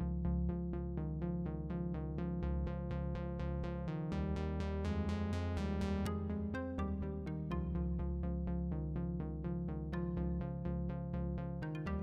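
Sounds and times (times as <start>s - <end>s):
steady low bass: 0.0s - 12.0s.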